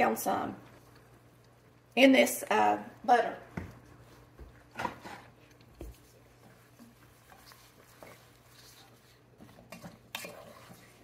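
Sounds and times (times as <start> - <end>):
wooden spoon stirring in pot: 0.0 - 11.0.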